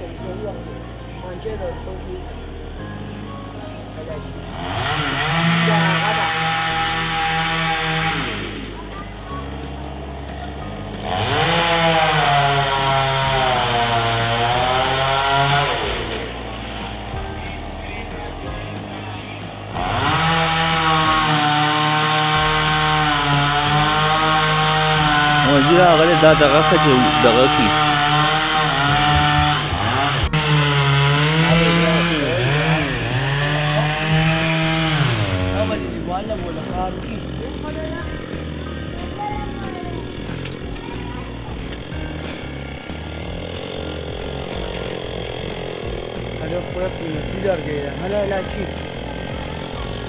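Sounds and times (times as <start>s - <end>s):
chainsaw revving: 0.0s - 50.0s.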